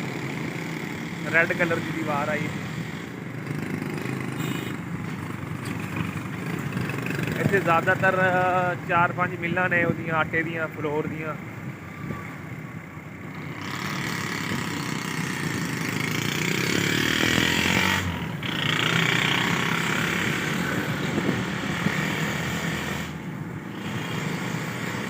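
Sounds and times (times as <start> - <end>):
road traffic noise: 0.0 - 25.0
vehicle engine hum: 0.0 - 25.0.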